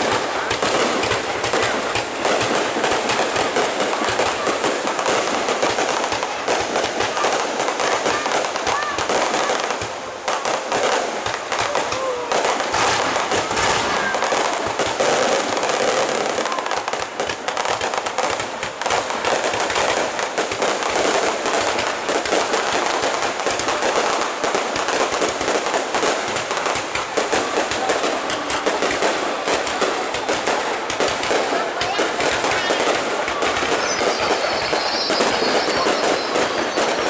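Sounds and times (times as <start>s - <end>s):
fireworks crackling and banging: 0.0s - 37.0s.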